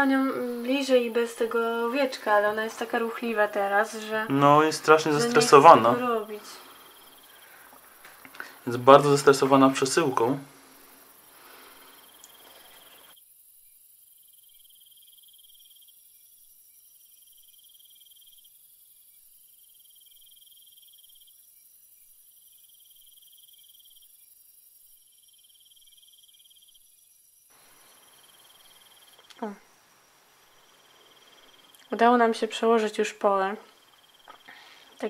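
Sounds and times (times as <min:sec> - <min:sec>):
cricket chirping: 0:00.0 - 0:35.0.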